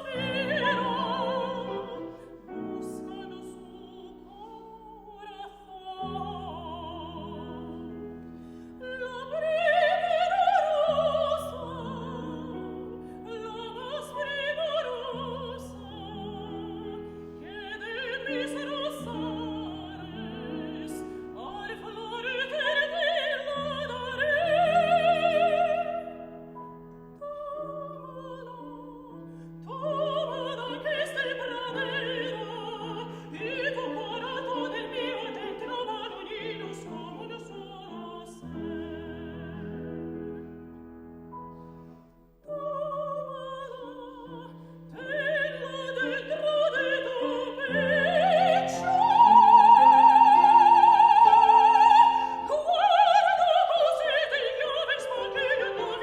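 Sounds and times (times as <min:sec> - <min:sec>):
soprano singing with vibrato: 0:00.0 - 0:40.7, 0:42.4 - 0:56.0
piano accompaniment: 0:00.0 - 0:56.0.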